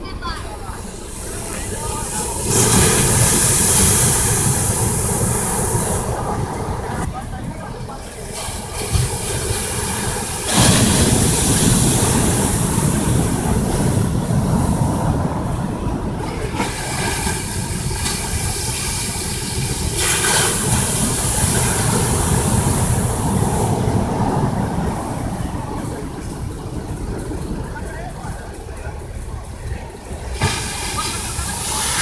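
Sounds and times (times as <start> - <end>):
surf breaking on beach: 1.2 - 28.4, 30.2 - 32.0.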